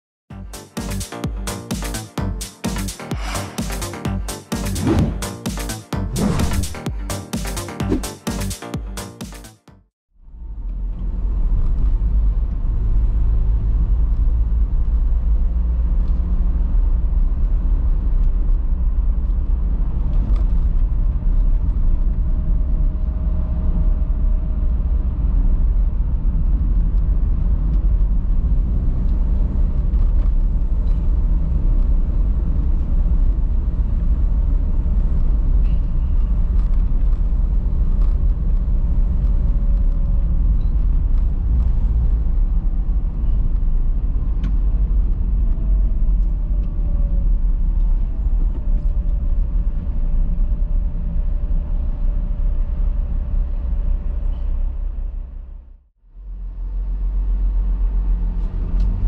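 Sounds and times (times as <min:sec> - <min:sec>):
low rumble of road vehicles: 0:10.1 - 0:59.0.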